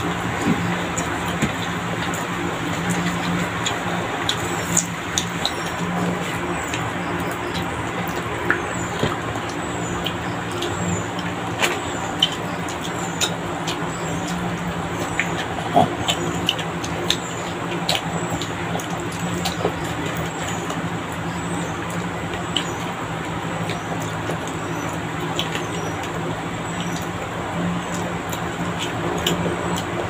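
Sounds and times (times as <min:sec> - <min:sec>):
chewing: 0:00.0 - 0:30.0
low mechanical hum: 0:00.0 - 0:30.0.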